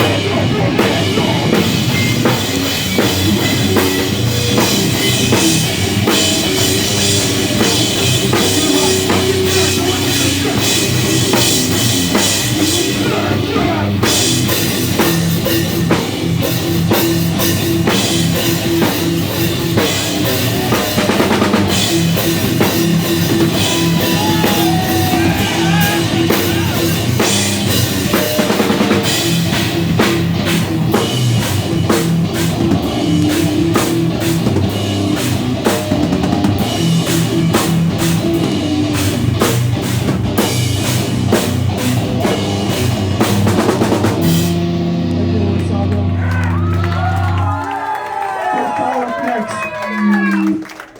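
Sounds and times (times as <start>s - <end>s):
live rock band playing: 0.0s - 47.6s.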